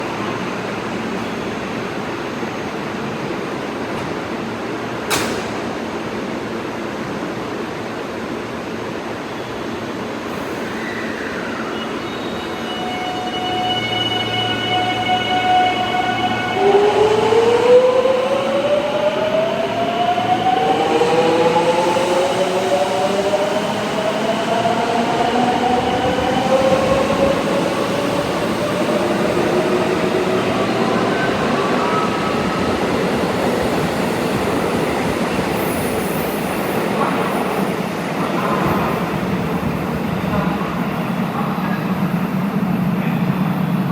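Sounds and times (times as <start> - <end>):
steady train noise: 0.0 - 43.9.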